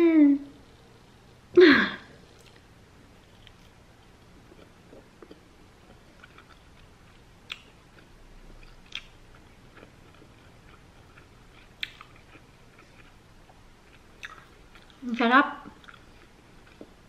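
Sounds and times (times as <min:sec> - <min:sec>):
person chewing food: 0:02.3 - 0:15.0, 0:15.6 - 0:17.0.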